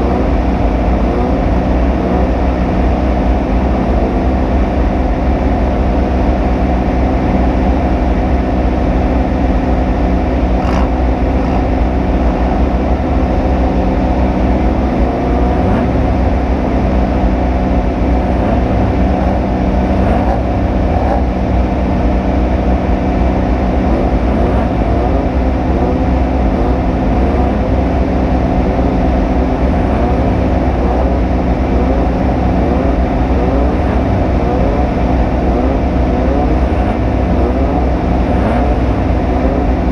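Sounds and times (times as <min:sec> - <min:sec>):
heavy steady rumble: 0:00.0 - 0:39.9
race vehicle engine running hard: 0:00.0 - 0:39.9.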